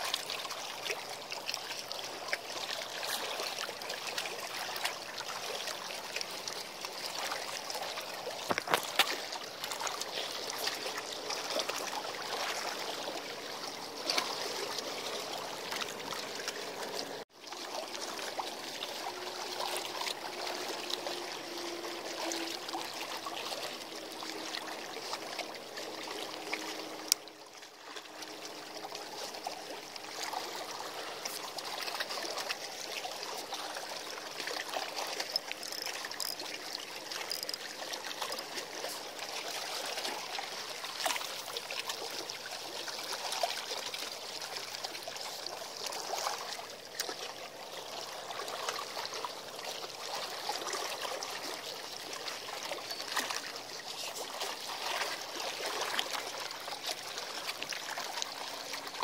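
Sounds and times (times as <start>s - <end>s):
water lapping against a wall: 0.0s - 59.0s.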